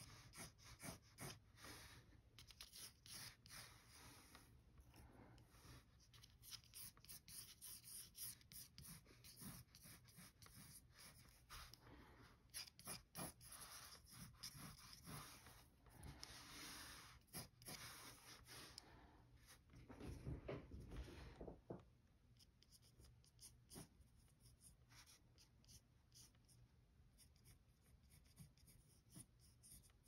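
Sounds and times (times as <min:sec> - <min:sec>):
pencil scratching on paper: 0:00.0 - 0:04.6, 0:05.4 - 0:18.8, 0:22.4 - 0:30.0.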